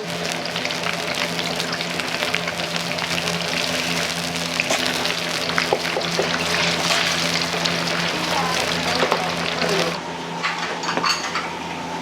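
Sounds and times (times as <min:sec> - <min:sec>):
water running: 0:00.0 - 0:10.0
kitchen machinery hum: 0:00.0 - 0:12.0.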